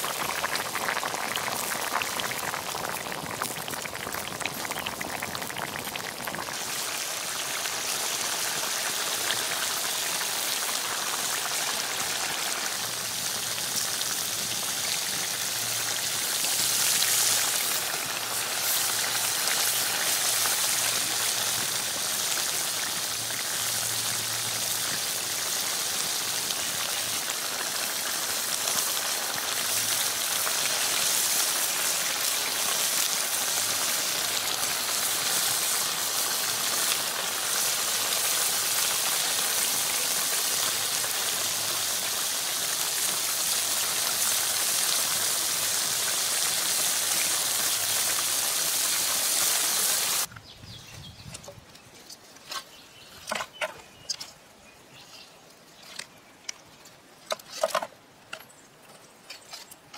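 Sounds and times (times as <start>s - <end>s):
crabs sizzling in oil: 0.0s - 50.3s.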